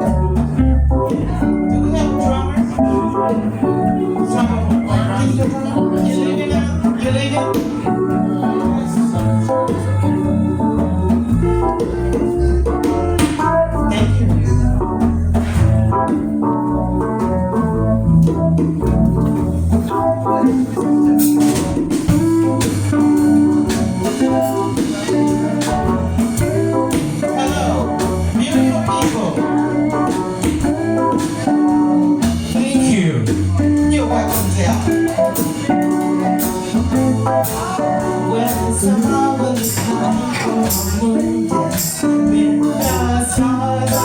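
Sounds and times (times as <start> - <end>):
bass line: 0.0 - 44.0
live band playing: 0.0 - 44.0.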